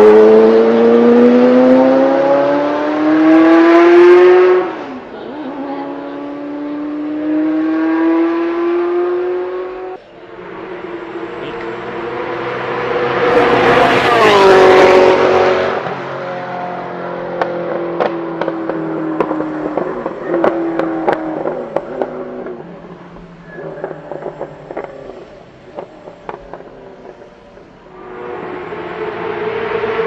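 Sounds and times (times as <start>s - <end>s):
sports car engine passing: 0.0s - 30.0s.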